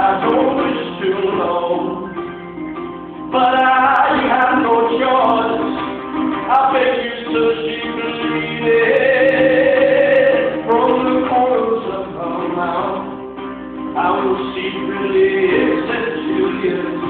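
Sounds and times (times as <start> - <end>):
live band music: 0.0 - 17.0
long-held melody line: 0.0 - 17.0
plucked strings: 0.0 - 17.0.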